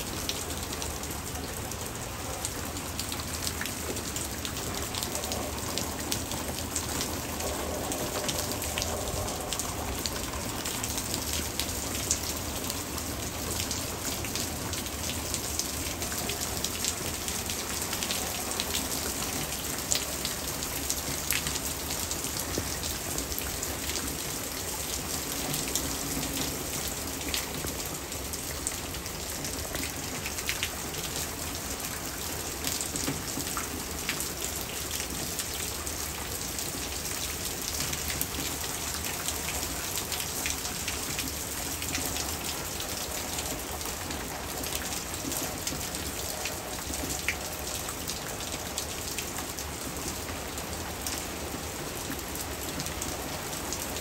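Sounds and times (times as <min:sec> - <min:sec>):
hard rain falling: 0:00.0 - 0:54.0
raindrops ticking on hard surfaces: 0:00.1 - 0:54.0.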